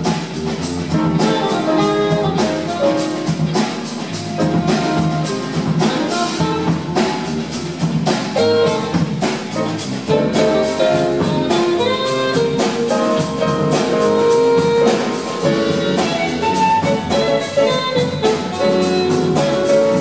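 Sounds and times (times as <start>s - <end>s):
jazz-funk band playing live: 0.0s - 20.0s.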